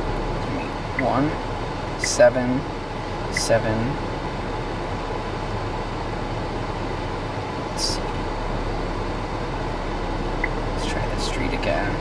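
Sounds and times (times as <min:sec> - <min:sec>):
car cabin road rush: 0:00.0 - 0:12.0.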